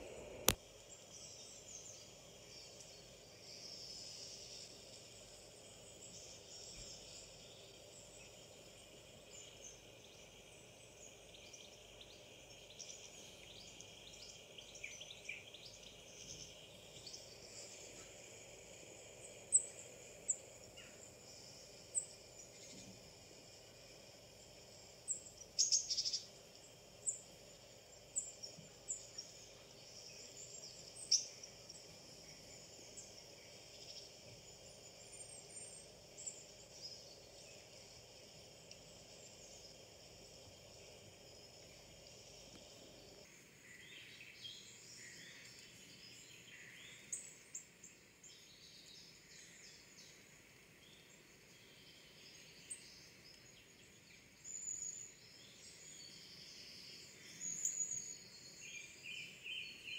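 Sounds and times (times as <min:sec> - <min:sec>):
faint high bird twittering: 0:00.0 - 0:50.2, 0:50.8 - 0:59.9.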